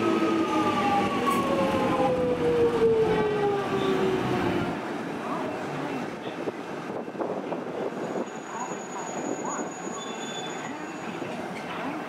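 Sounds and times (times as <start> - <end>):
train rail noise: 0.0 - 12.0.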